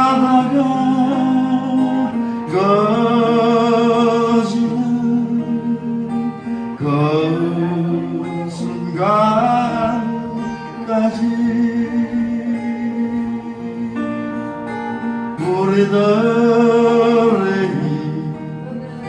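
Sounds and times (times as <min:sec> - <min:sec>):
person singing with vibrato: 0:00.0 - 0:19.0
sustained instrumental accompaniment: 0:00.0 - 0:19.0.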